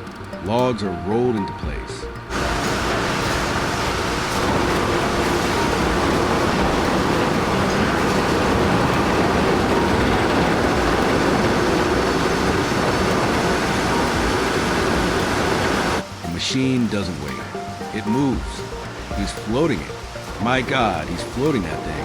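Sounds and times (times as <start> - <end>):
heavy machinery rumbling: 0.0 - 22.0.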